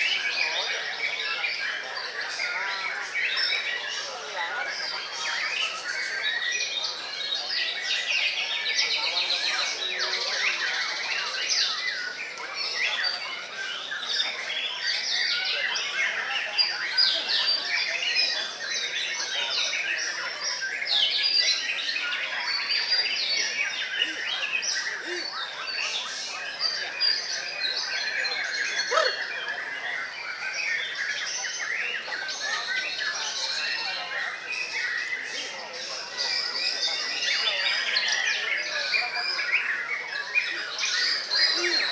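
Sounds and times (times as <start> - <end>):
birds singing: 0.0 - 41.9.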